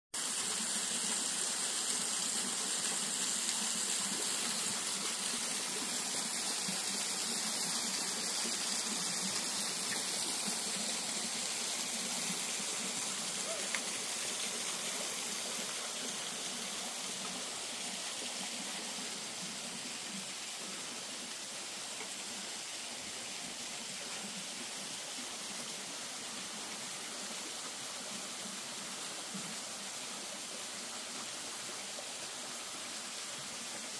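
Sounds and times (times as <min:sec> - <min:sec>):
stream and waterfall rushing: 0:00.2 - 0:33.9.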